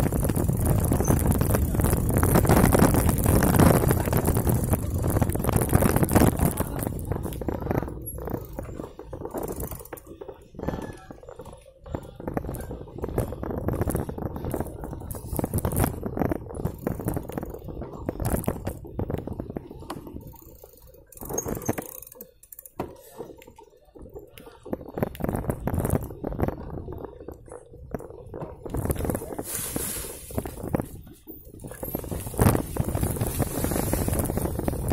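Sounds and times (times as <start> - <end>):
bike and mount rattling: 0.0 - 34.9
bike rolling over dirt track: 0.0 - 34.9.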